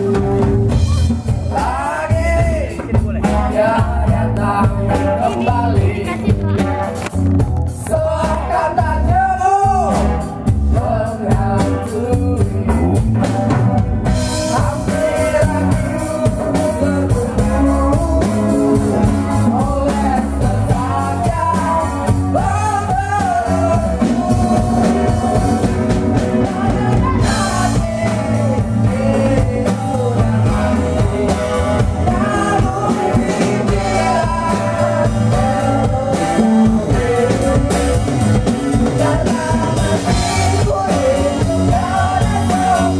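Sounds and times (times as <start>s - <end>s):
person singing: 0.0s - 13.6s, 14.3s - 42.9s
electric bass: 0.0s - 42.9s.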